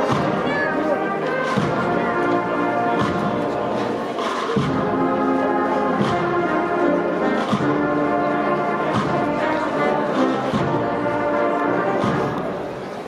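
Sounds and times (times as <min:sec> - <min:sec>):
brass band playing a slow march: 0:00.0 - 0:13.0
drum strokes: 0:00.0 - 0:13.0.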